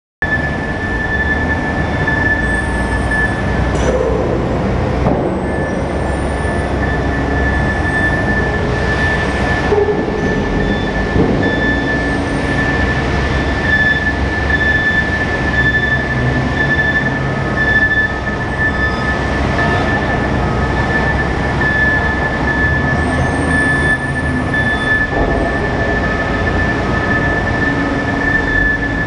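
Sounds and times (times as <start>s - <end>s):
forklift engine rumble: 0.2s - 29.0s.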